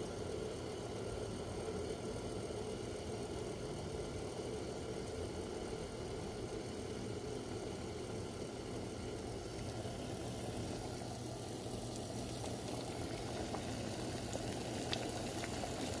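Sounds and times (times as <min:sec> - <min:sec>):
water bubbling at a boil: 0:00.1 - 0:16.0.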